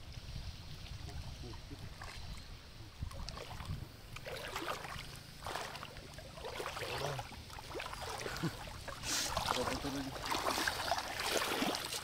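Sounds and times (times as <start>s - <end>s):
river water splashing and dripping: 0.0s - 12.0s.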